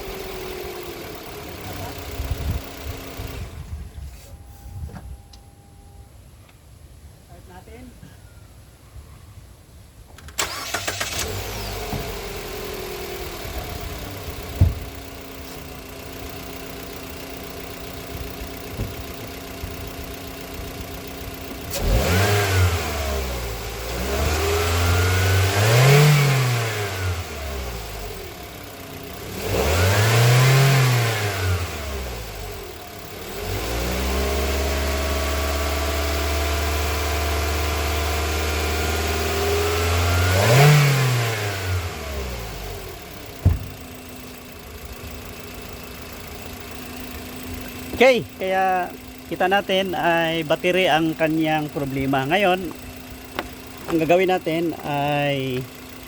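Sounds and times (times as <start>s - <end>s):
car engine starting and revving: 0.0s - 3.7s, 10.3s - 56.0s.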